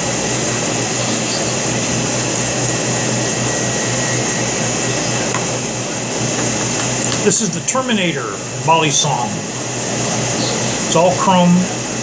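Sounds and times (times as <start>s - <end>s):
air conditioning whirring hum: 0.0s - 12.0s.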